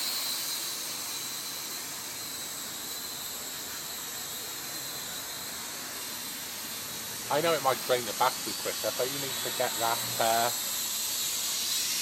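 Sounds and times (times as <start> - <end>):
toy drone whirring: 0.0 - 12.0.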